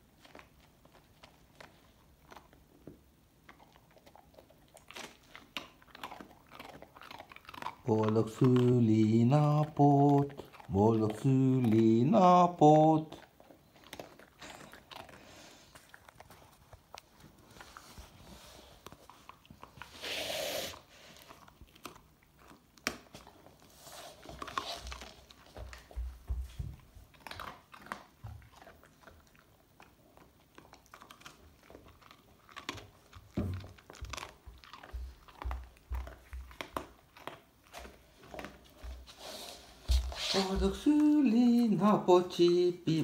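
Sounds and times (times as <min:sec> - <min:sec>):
dog crunching and chewing cake: 0:00.0 - 0:43.0.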